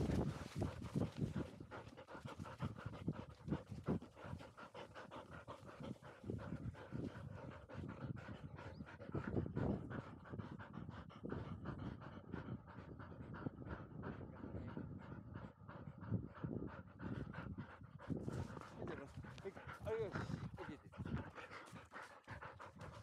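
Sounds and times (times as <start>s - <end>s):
dog panting rapidly: 0.0s - 23.0s.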